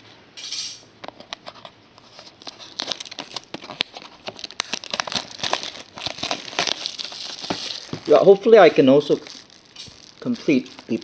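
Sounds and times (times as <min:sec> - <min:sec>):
plastic wrapping crinkling: 0:01.4 - 0:11.0.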